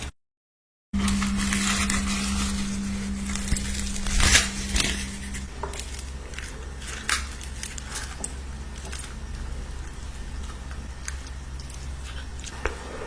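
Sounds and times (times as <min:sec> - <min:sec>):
food crunching: 0:01.0 - 0:13.0
steady low hum: 0:01.0 - 0:13.0.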